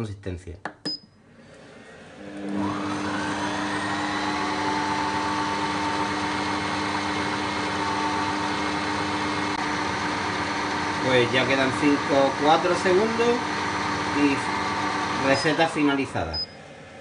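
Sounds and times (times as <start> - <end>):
kitchen robot motor whine: 2.2 - 16.7.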